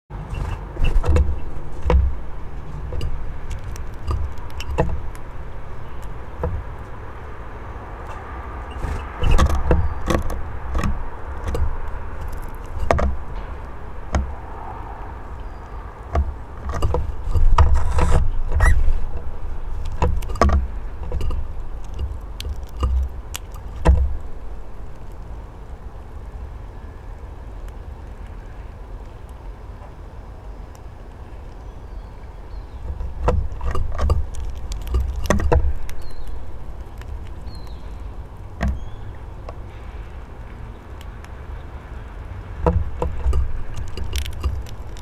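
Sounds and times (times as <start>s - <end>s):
birds pecking on wood: 0.2s - 45.0s.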